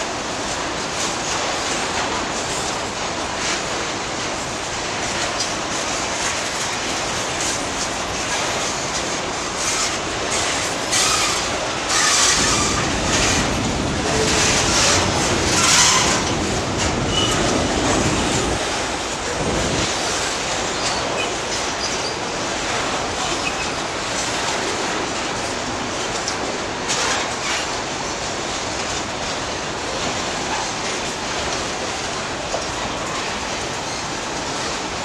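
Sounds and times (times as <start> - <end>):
train wheels rumbling and clattering: 0.0 - 35.0.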